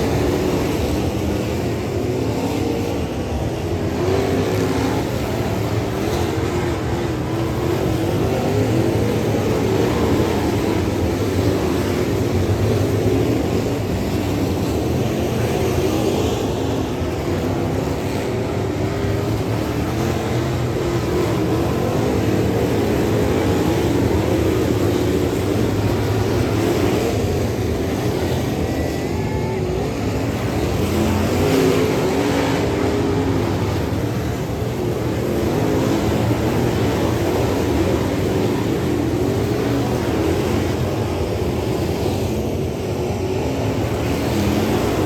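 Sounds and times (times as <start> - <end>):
race car engines running hard: 0.0 - 45.0.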